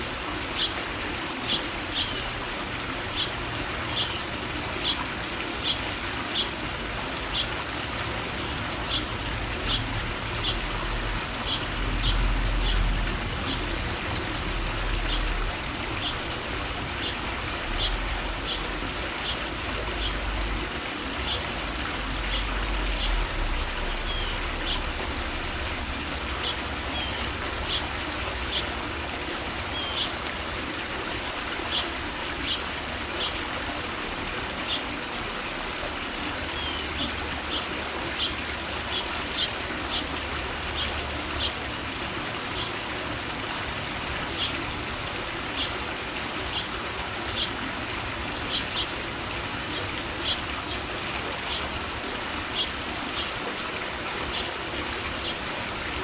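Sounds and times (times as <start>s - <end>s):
rushing hiss of water: 0.0s - 56.0s.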